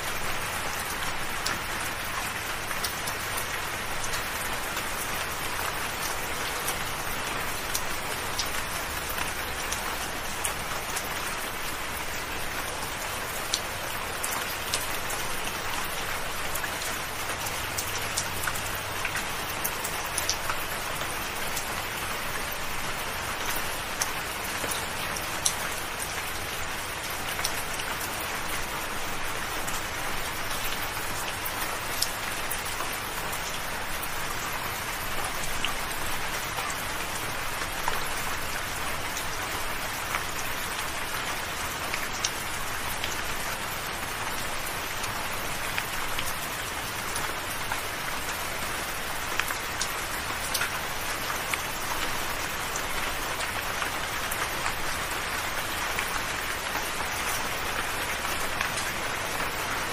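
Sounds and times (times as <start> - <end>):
raindrops ticking: 0.0 - 59.9.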